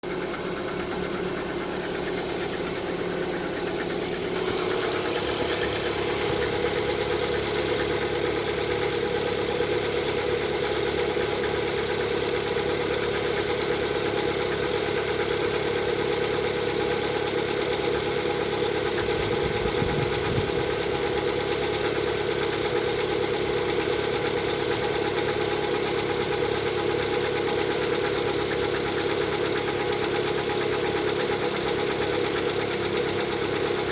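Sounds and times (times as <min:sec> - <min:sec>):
car engine idling: 0:00.0 - 0:33.9
engine knocking: 0:00.0 - 0:33.9.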